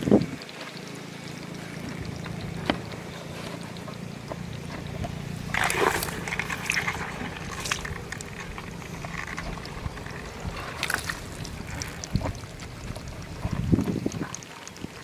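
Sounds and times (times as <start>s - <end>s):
hands splashing in water and mud: 2.0s - 14.4s.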